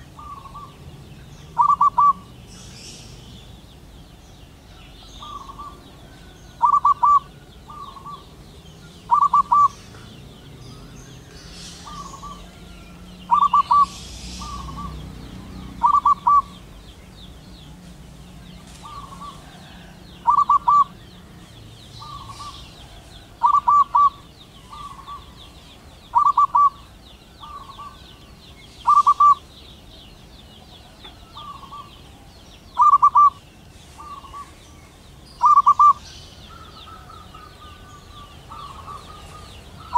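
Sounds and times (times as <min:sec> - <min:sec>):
dove cooing: 0:00.0 - 0:00.9, 0:01.5 - 0:03.3, 0:04.8 - 0:16.8, 0:18.6 - 0:25.4, 0:26.1 - 0:28.1, 0:28.8 - 0:29.6, 0:30.6 - 0:34.6, 0:35.4 - 0:39.9.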